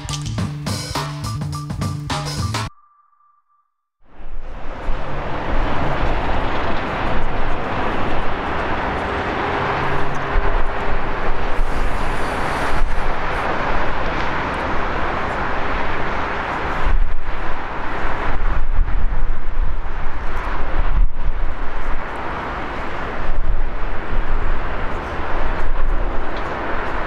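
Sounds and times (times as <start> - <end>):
rushing jet engine noise: 4.2 - 27.0
wind buffeting microphone: 4.2 - 27.0.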